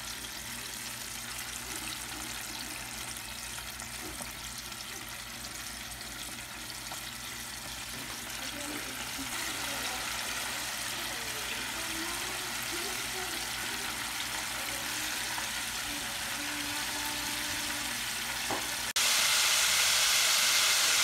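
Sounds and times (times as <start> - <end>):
wings deep-frying in oil: 0.0 - 21.0.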